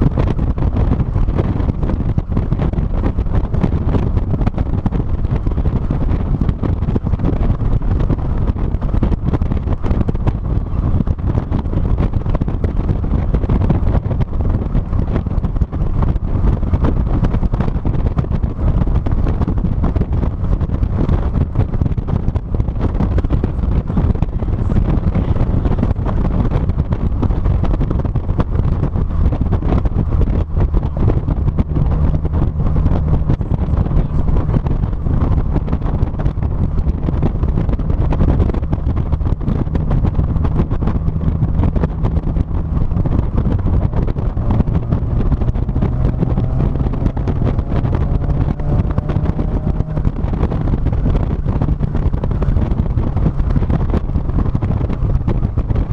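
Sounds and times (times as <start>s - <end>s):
car engine: 0.0s - 55.9s
road noise: 0.0s - 55.9s
wind buffeting microphone: 0.0s - 55.9s.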